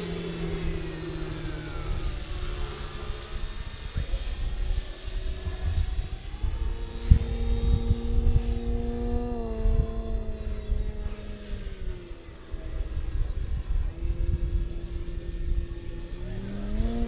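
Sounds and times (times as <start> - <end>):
electric motor and propeller whine: 0.0 - 17.0
wind on microphone: 0.0 - 17.0.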